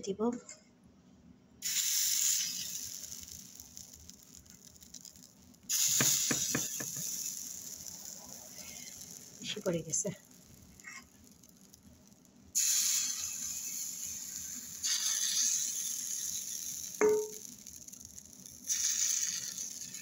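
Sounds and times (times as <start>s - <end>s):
batter sizzling in a hot pan: 1.6s - 20.0s.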